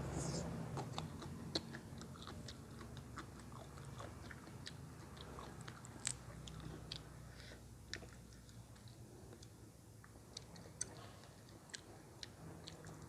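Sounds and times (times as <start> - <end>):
person chewing crunchy food: 0.3 - 9.6, 10.2 - 13.0.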